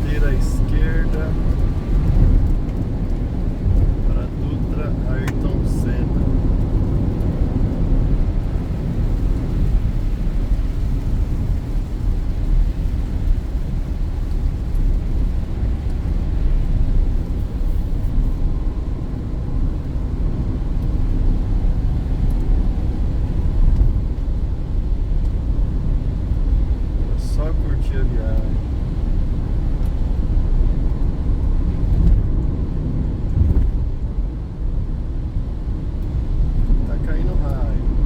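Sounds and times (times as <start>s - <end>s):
car engine running: 0.0s - 38.0s
tyres on wet road: 0.0s - 38.0s.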